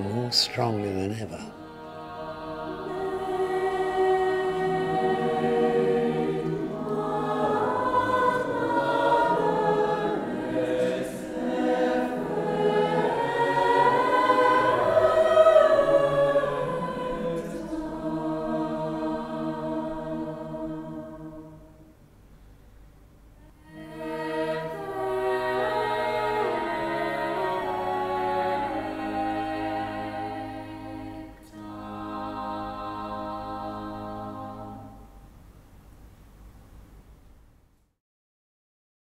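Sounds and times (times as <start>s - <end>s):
mixed choir singing: 0.0s - 21.9s, 23.5s - 35.2s.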